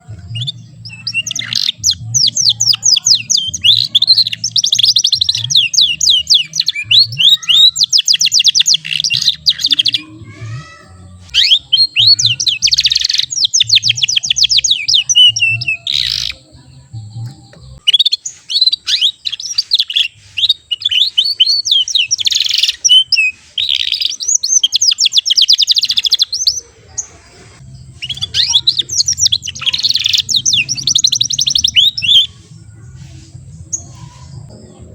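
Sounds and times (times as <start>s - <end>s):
canary chirping trills: 0.0s - 34.9s.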